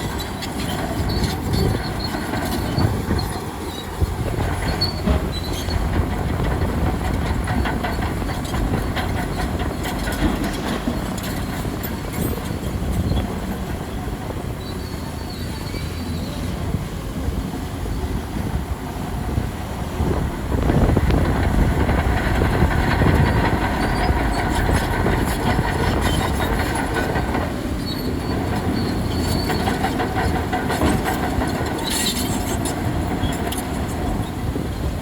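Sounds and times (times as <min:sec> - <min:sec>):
diesel engine under load: 0:00.0 - 0:35.0
steel tracks clanking and squealing: 0:00.0 - 0:35.0.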